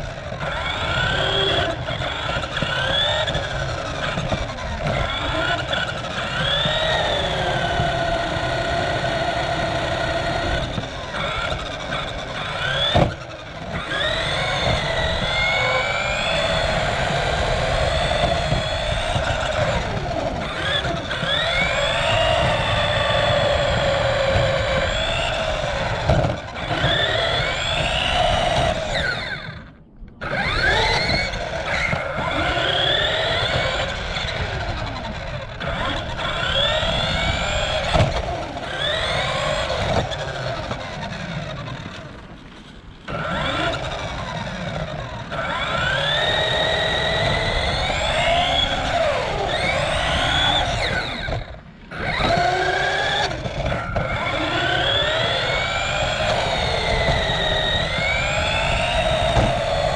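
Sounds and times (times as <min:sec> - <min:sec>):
rc car motor whining: 0:00.0 - 0:59.9
wheels rumbling on pavement: 0:00.0 - 0:59.9.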